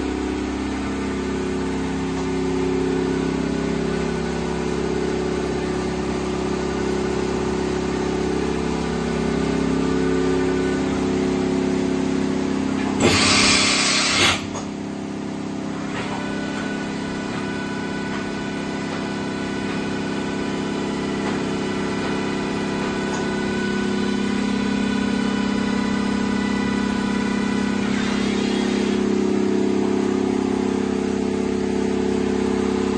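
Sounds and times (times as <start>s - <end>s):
machining center humming: 0.0s - 32.9s.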